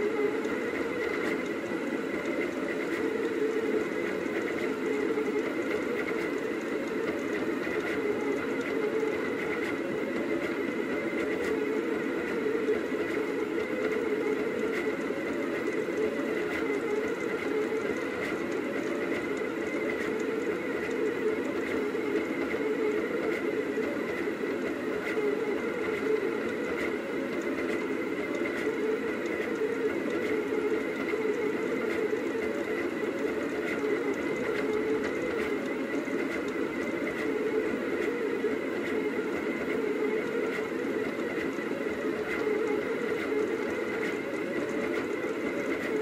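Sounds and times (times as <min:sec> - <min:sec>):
printer motors whirring: 0:00.0 - 0:46.0.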